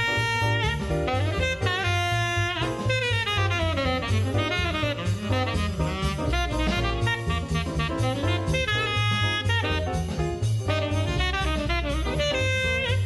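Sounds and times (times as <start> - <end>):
bass: 0.0 - 13.0
drums: 0.0 - 13.0
saxophone solo: 0.0 - 13.0.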